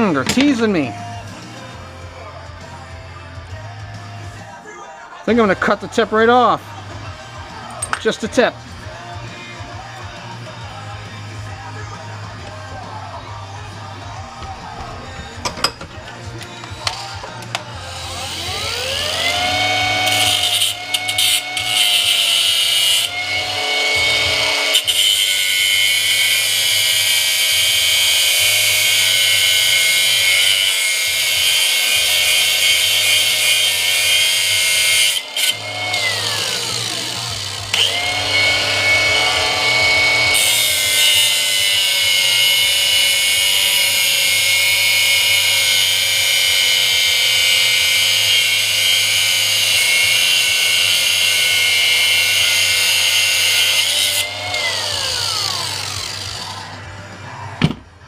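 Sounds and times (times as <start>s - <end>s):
grinder whining on metal: 9.8s - 57.5s.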